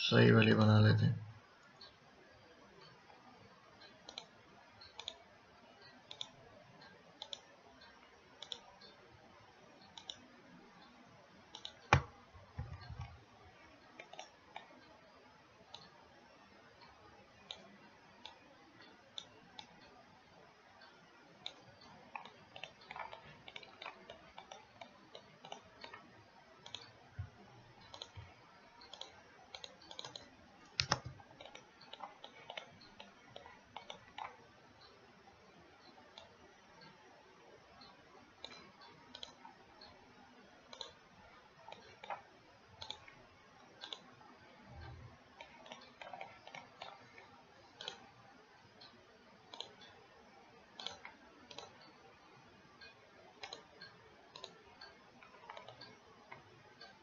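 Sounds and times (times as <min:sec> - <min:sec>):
computer mouse clicking: 0:03.8 - 0:09.0, 0:09.8 - 0:15.0, 0:15.6 - 0:16.0, 0:16.8 - 0:37.1, 0:37.8 - 0:57.0.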